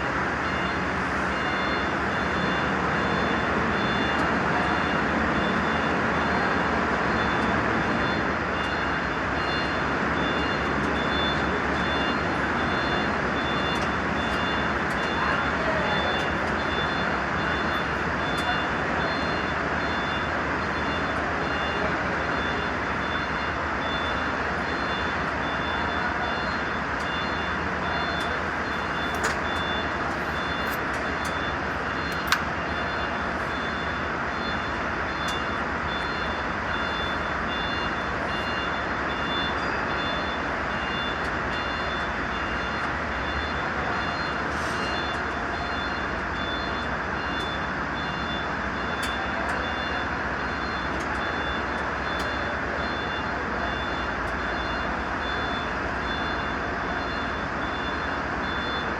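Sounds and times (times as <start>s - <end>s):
truck diesel engine running: 0.0s - 58.8s.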